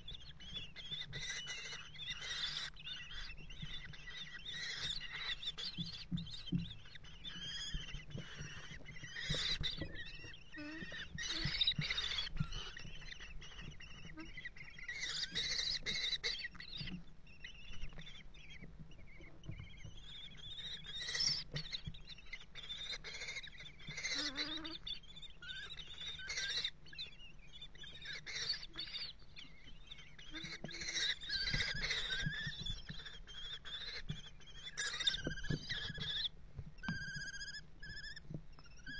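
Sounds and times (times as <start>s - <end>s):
kestrels calling: 0.0s - 38.9s.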